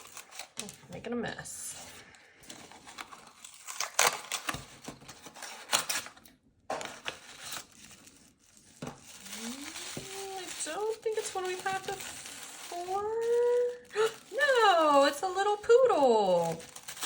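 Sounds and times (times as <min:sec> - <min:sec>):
packaging tearing and crinkling: 0:00.0 - 0:00.9, 0:02.5 - 0:17.0.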